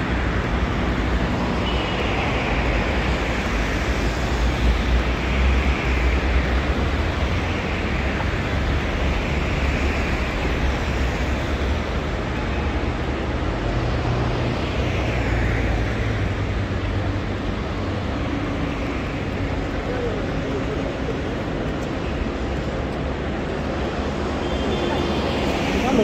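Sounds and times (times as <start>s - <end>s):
vehicles passing with low rumble: 0.0s - 26.0s.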